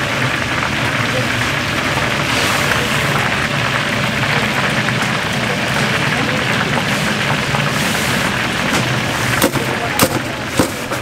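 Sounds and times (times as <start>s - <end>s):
oil sizzling in a fryer: 0.0s - 11.0s.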